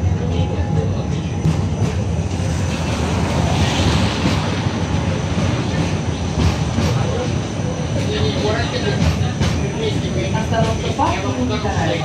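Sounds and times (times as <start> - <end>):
tram wheels and motor rumbling: 0.0 - 12.0.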